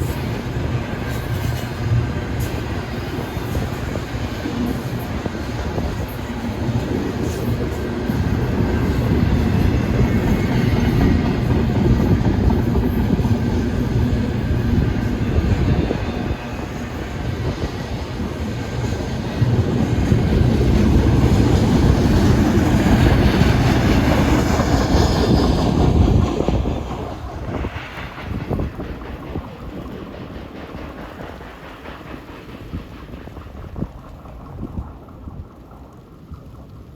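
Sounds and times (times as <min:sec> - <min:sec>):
freight train rumbling over rails: 0:00.0 - 0:36.9.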